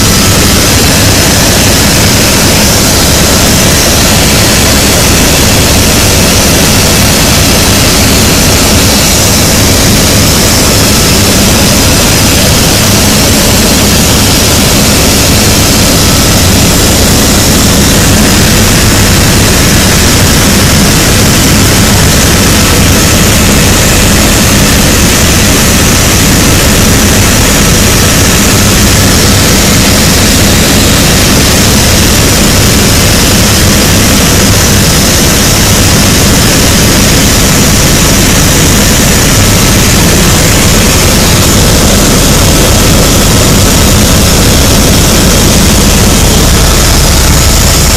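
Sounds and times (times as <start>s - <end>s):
helicopter engine and rotor noise: 0.0s - 47.9s.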